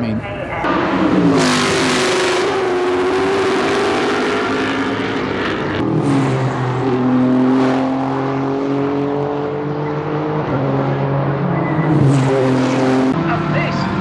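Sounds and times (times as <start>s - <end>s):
race cars passing at speed: 0.6s - 14.0s.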